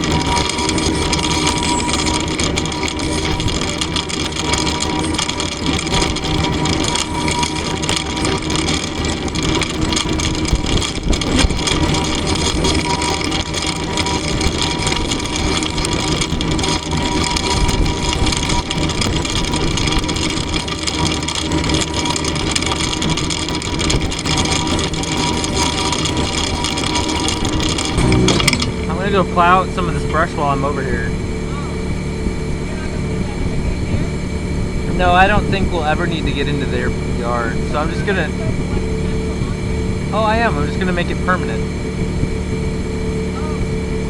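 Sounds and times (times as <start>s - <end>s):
mini excavator engine running: 0.0s - 44.0s.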